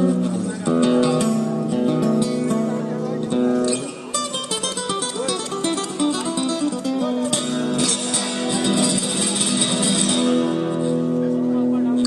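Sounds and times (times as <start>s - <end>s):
acoustic guitar plucked melody: 0.0s - 12.0s.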